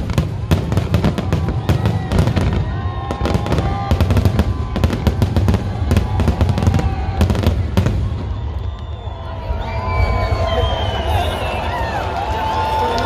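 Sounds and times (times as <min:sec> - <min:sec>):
fireworks bangs and crackles: 0:00.0 - 0:12.8.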